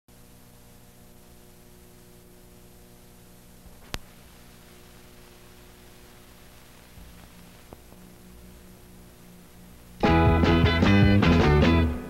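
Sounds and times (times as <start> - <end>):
film soundtrack hiss: 0.1 - 12.0
steady electrical hum: 0.1 - 12.0.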